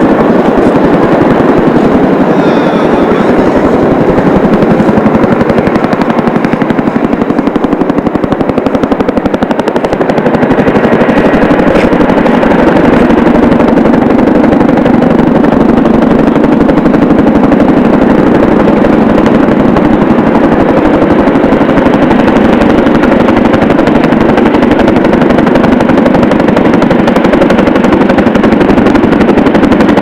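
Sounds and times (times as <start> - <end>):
helicopter rotors pulsing: 0.0 - 30.0.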